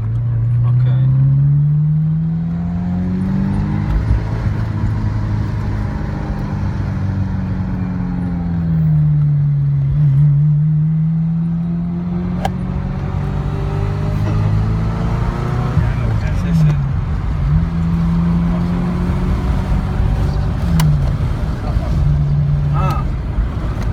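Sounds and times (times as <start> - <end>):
car engine revving in a tunnel: 0.0 - 23.9.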